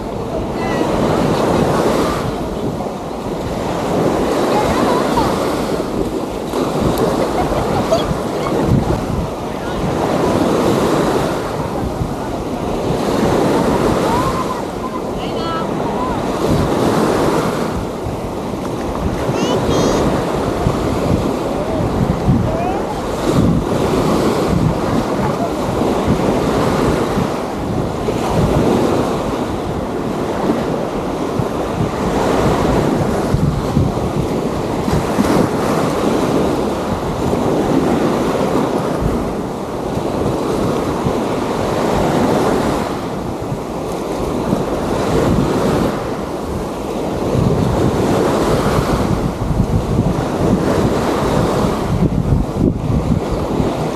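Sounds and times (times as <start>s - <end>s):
waves washing onto beach: 0.0s - 53.9s
wind buffeting microphone: 0.0s - 53.9s.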